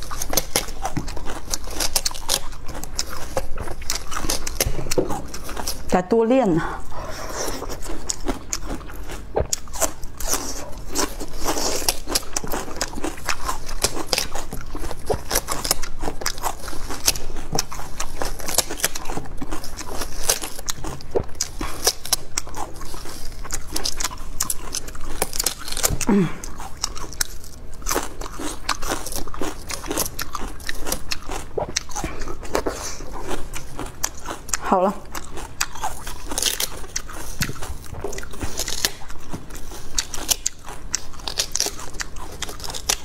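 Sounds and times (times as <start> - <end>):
crunchy watermelon chewing: 0.0 - 6.0, 6.8 - 43.0.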